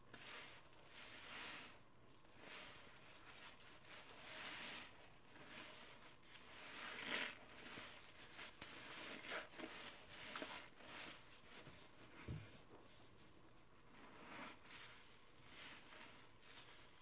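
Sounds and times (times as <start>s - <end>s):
sponge squelching in soapy water: 0.0s - 17.0s.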